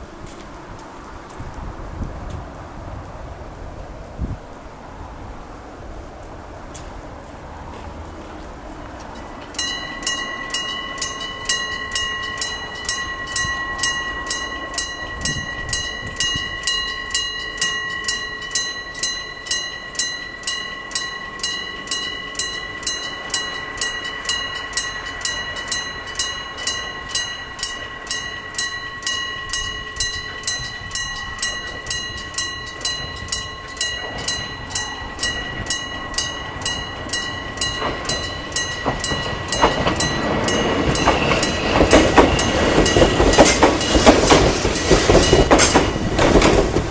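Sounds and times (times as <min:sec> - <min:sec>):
level crossing bell clanging: 0:09.1 - 0:46.9.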